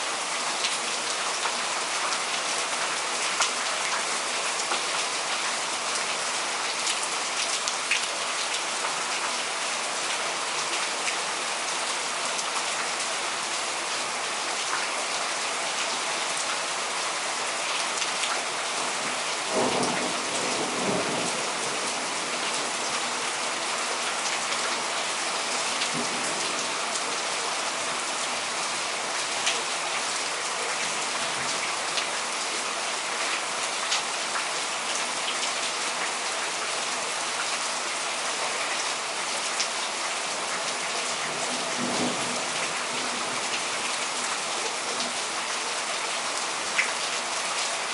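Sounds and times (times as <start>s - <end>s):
heavy rain downpour: 0.0s - 47.9s.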